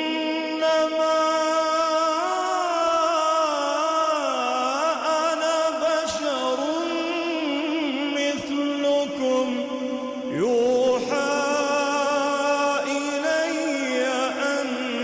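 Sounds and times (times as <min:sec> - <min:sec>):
person chanting melodically: 0:00.0 - 0:15.0.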